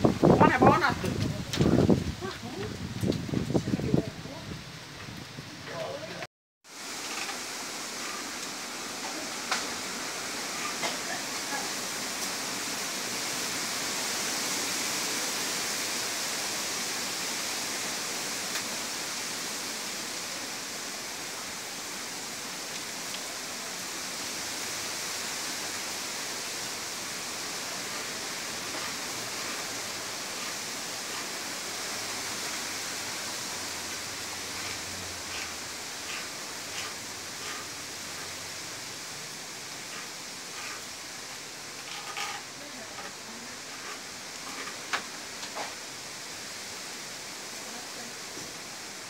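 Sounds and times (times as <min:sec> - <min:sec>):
storm wind through trees: 0:00.0 - 0:49.0.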